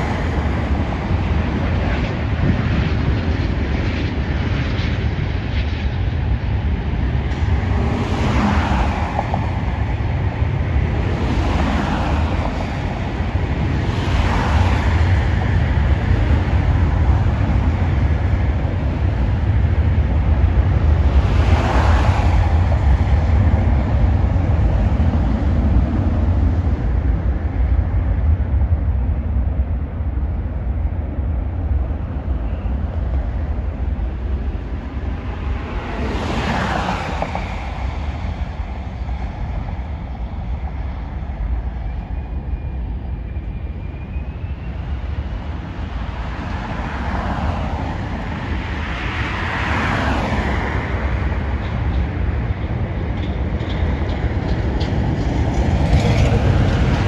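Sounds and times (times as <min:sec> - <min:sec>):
jet engines rumbling: 0:00.0 - 0:57.0
wind buffeting microphone: 0:00.0 - 0:57.0.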